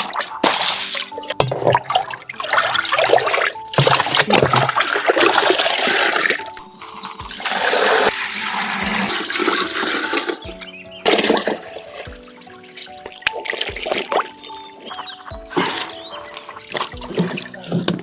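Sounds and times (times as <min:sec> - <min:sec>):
background music: 0:00.0 - 0:18.0
water rushing and splashing: 0:00.0 - 0:18.0.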